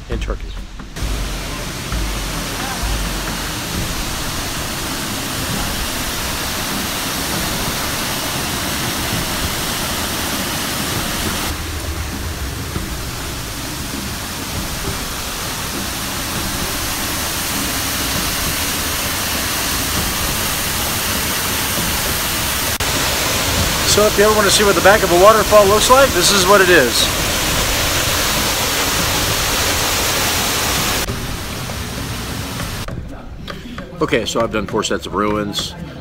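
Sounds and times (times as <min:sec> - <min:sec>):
waterfall rushing: 0:01.0 - 0:32.9.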